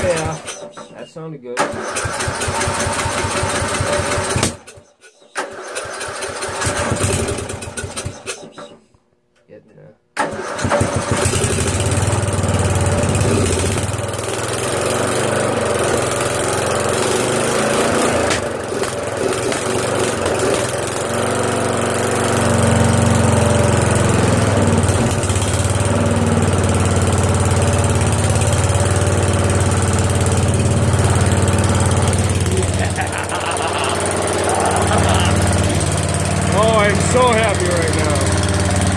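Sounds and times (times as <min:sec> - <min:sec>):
lawn mower engine running: 0:00.0 - 0:00.9, 0:01.6 - 0:04.6, 0:05.4 - 0:08.4, 0:10.2 - 0:38.9.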